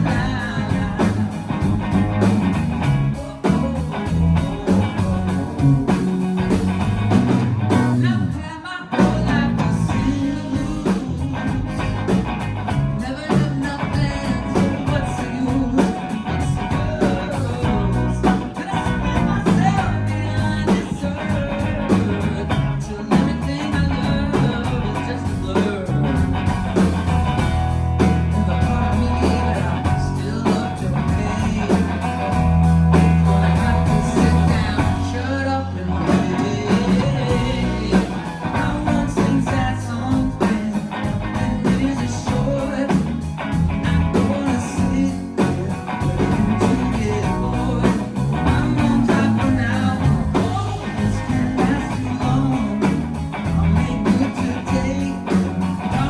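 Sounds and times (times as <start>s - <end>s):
person singing: 0.0s - 26.9s, 28.0s - 56.0s
live pop-rock band: 0.0s - 56.0s.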